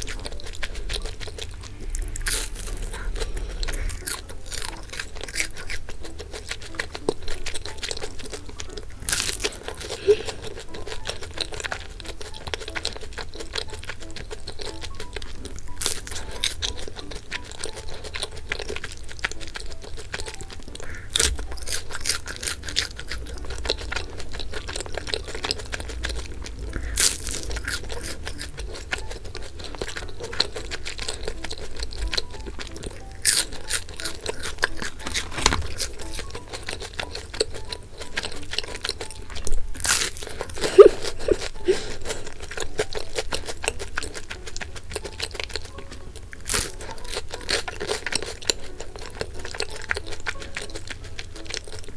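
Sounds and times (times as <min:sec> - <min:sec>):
crispy pastry crunching: 0:00.0 - 0:51.9.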